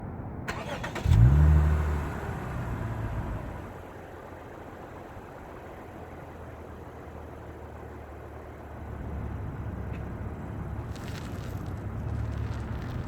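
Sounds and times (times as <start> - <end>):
car engine revving and idling: 0.5 - 13.0.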